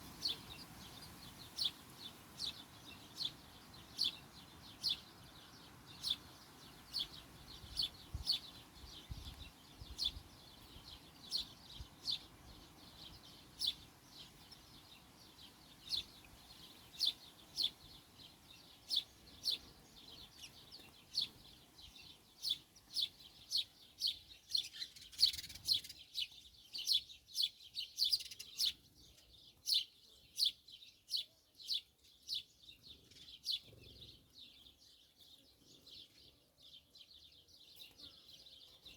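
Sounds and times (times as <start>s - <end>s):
small bird chirping: 0.0s - 38.9s.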